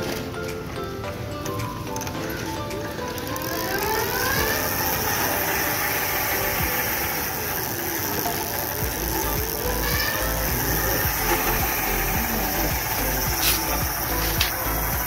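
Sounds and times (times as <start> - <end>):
electric bicycle hub motor whining: 0.0 - 15.0.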